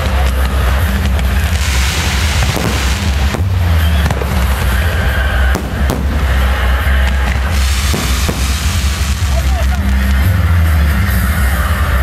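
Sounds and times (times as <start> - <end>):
sharp firework bangs: 0.0 - 10.6
fireworks bursting and crackling: 0.0 - 12.0.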